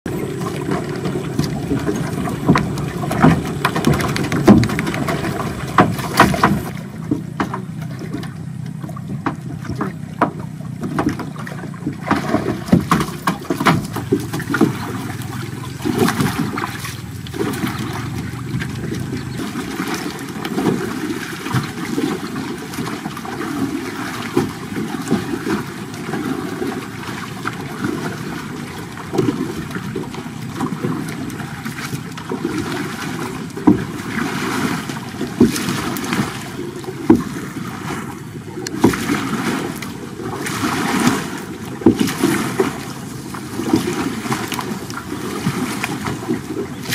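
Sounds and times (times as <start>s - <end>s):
low rumble of water and hull: 0.0s - 46.9s
short knocks on boat: 0.4s - 22.8s, 29.0s - 39.9s, 40.5s - 46.9s.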